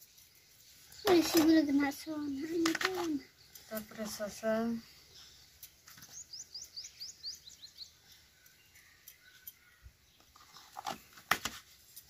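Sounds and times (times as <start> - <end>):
small bird chirping: 0.0 - 11.1.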